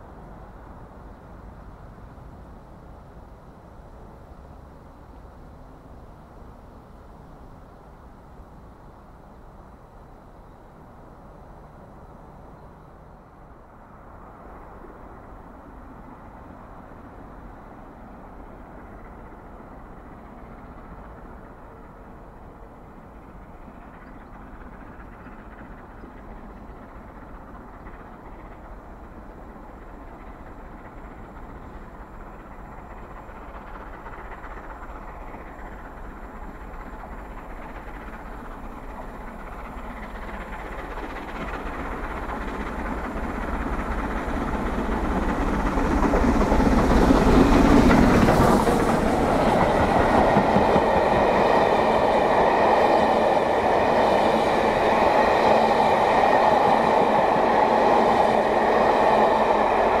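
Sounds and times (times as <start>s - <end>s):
steam locomotive passing: 0.0s - 60.0s
train coaches rushing past: 11.1s - 60.0s.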